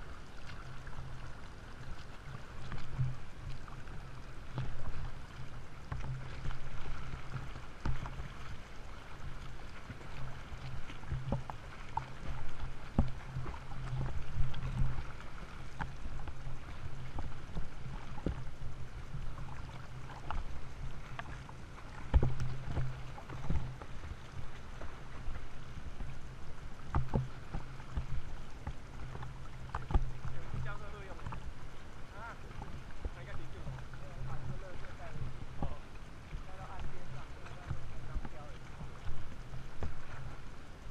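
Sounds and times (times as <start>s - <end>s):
water sloshing and splashing: 0.0s - 40.9s
waves and swimming strokes slapping: 0.0s - 40.9s.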